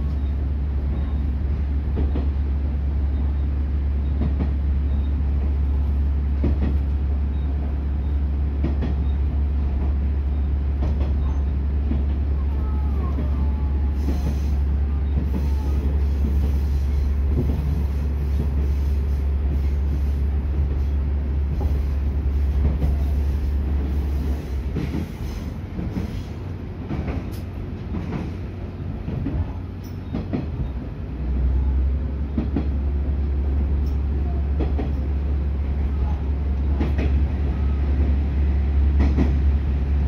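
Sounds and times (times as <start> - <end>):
railcar engine drone: 0.0 - 40.0.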